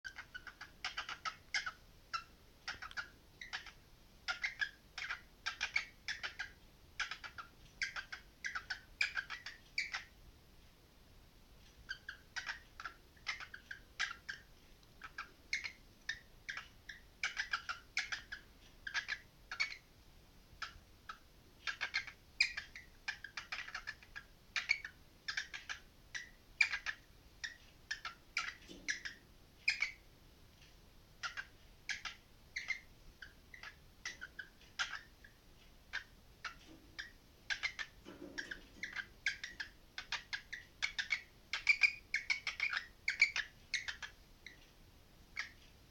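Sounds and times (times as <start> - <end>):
parrot chirping and squawking: 0.1 - 10.2, 11.9 - 19.9, 20.6 - 30.1, 31.2 - 44.6, 45.3 - 45.6.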